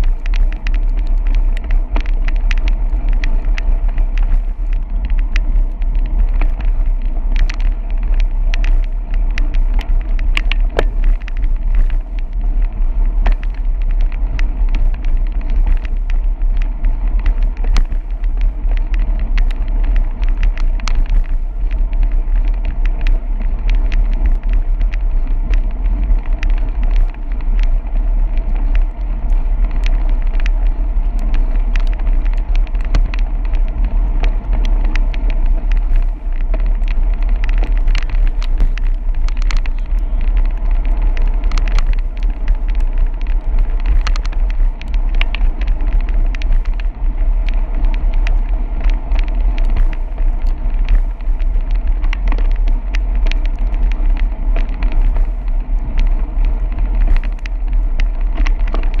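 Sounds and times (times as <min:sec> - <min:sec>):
small ticks and crackles: 0:00.0 - 0:59.0
wind and road rumble: 0:00.0 - 0:59.0.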